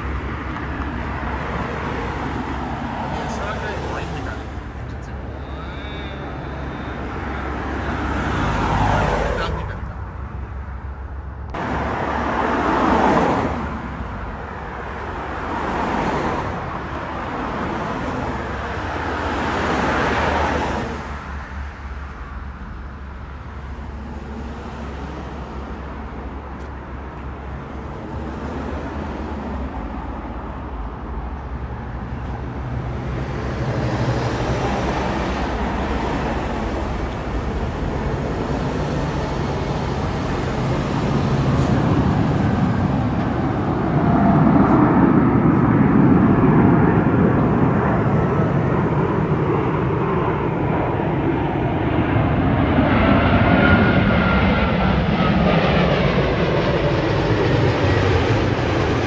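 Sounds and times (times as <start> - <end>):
traffic rumble: 0.0 - 59.0
vehicles passing close by: 0.0 - 59.0.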